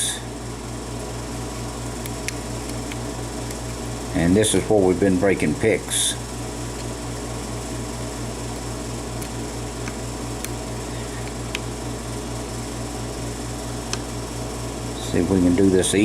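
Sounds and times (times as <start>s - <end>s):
mechanical hum with fast pulse: 0.0s - 16.0s.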